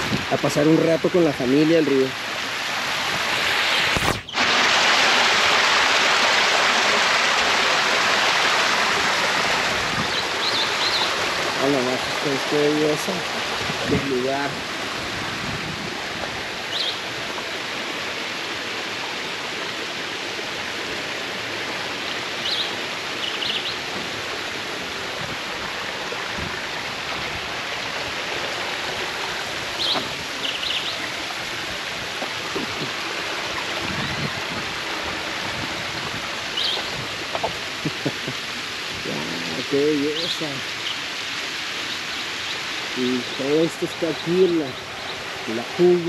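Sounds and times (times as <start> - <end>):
waterfall and river rushing: 0.0 - 46.0.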